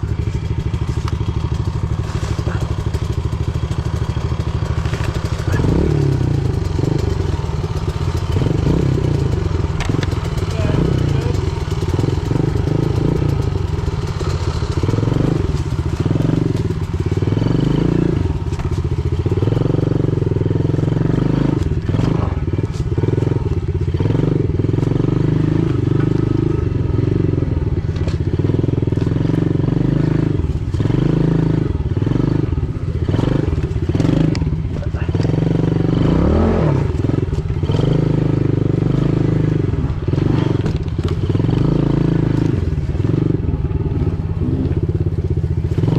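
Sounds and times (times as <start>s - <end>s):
bike knocks and rattles: 0.0s - 45.9s
pit bike engine revving: 0.0s - 45.9s.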